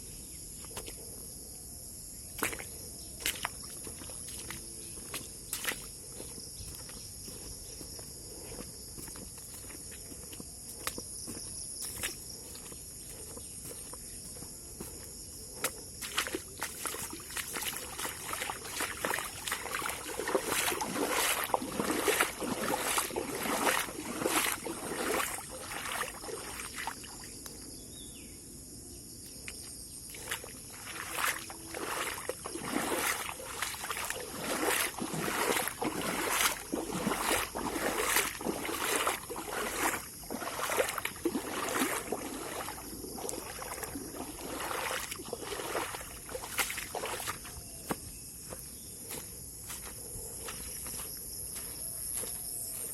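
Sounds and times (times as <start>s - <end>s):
high insect chorus: 0.0s - 52.9s
footsteps splashing on wet ground: 0.6s - 1.1s, 2.2s - 27.7s, 29.3s - 52.9s.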